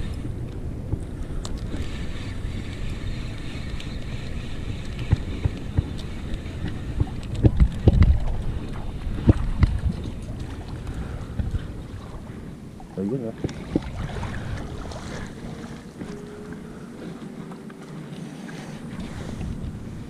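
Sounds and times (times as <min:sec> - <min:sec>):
wind buffeting microphone: 0:00.0 - 0:17.6.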